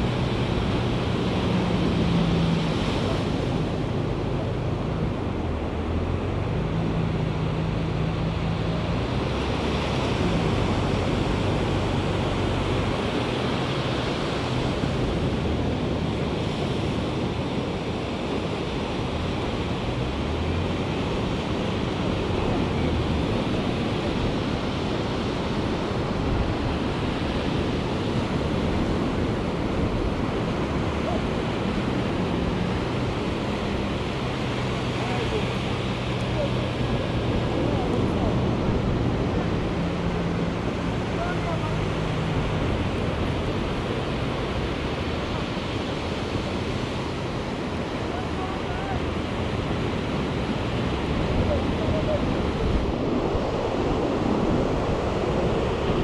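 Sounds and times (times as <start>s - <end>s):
ocean surf breaking: 0.0s - 56.0s
wind on microphone: 0.0s - 56.0s.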